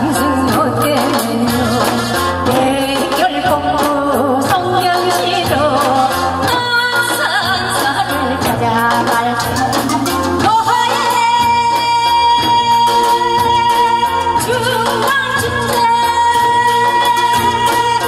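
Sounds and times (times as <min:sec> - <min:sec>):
amplified accompaniment with drums: 0:00.0 - 0:18.0
woman singing into microphone: 0:00.0 - 0:18.0.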